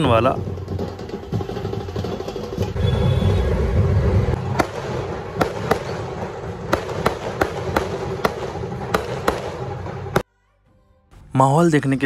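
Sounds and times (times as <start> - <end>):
street noise: 0.0 - 12.0
fireworks bangs: 0.4 - 10.2.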